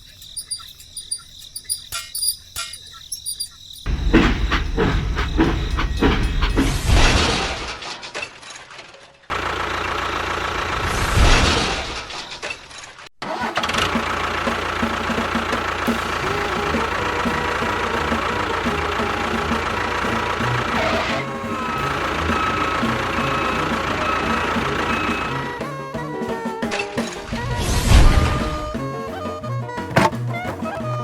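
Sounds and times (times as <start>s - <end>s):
engine starting and running: 3.9s - 29.1s.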